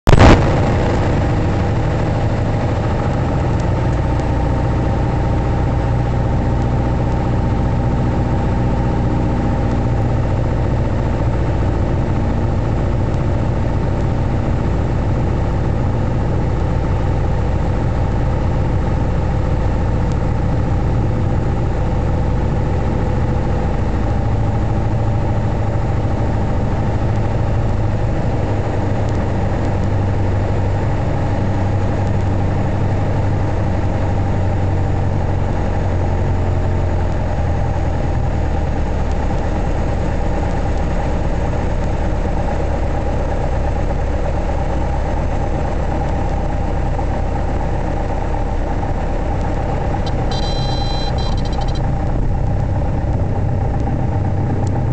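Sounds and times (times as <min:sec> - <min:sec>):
propeller plane engine droning: 0:00.0 - 0:54.9.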